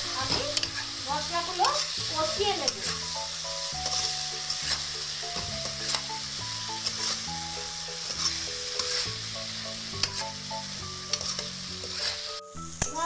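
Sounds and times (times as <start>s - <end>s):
simple background melody: 0.0s - 13.0s
spices sizzling in hot oil: 0.0s - 13.0s
spatula scraping pan: 0.3s - 7.4s, 8.0s - 12.4s.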